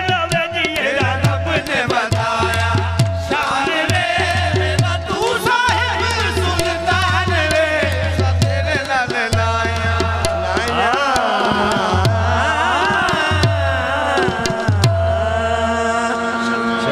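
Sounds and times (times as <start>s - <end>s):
tabla beats: 0.0s - 16.6s
harmonium notes: 0.0s - 16.9s
man singing: 0.0s - 16.9s.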